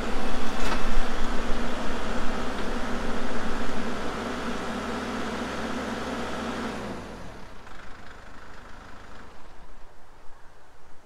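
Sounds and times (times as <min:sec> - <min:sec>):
tractor engine idling and stopping: 0:00.0 - 0:10.2.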